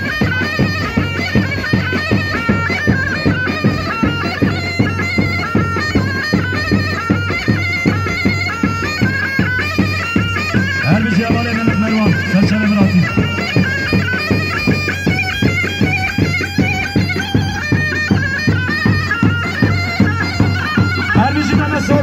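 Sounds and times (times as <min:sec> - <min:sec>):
drum beat: 0:00.0 - 0:22.0
shrill reed melody: 0:00.0 - 0:22.0.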